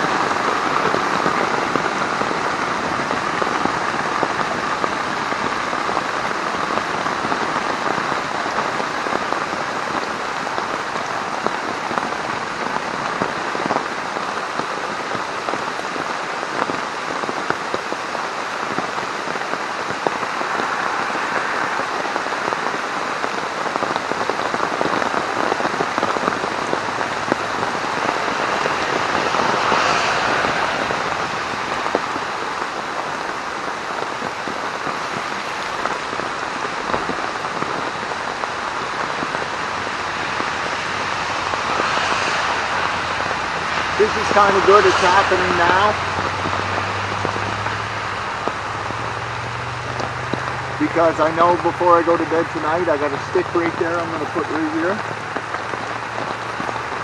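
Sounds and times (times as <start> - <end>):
heavy rain on a tarp: 0.0 - 57.0.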